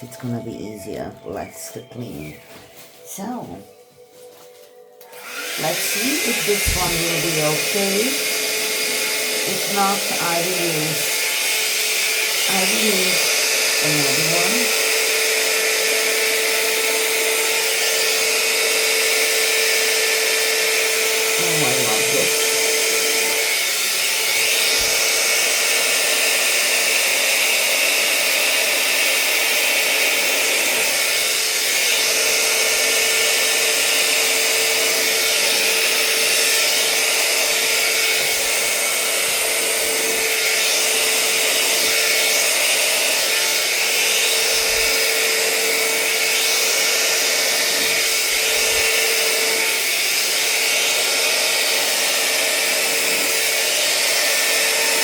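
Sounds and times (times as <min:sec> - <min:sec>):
hair dryer running: 0:02.2 - 0:55.0.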